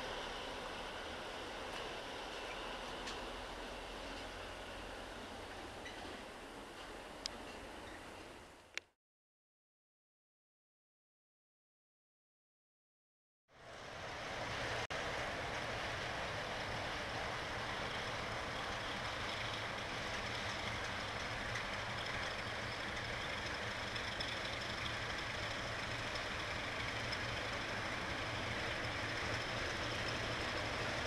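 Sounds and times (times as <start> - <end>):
distant freight train rumble: 0.0 - 8.8, 13.5 - 31.0.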